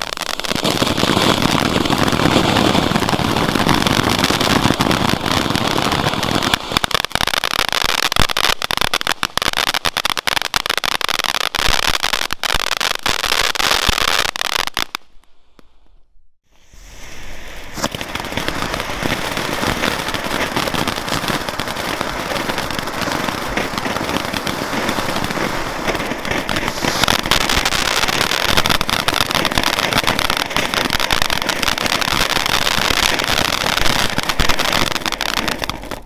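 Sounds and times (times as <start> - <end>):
fountain fireworks hissing and crackling: 0.0 - 15.1, 16.4 - 36.0.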